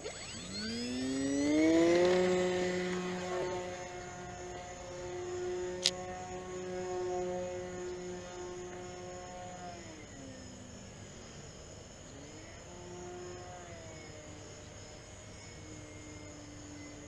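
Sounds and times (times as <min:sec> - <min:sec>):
model plane propeller drone: 0:00.0 - 0:17.0.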